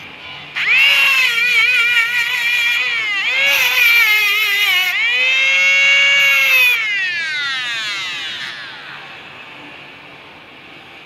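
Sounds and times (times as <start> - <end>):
angle grinder whining: 0.0 - 10.9
grinding hiss: 0.8 - 11.0.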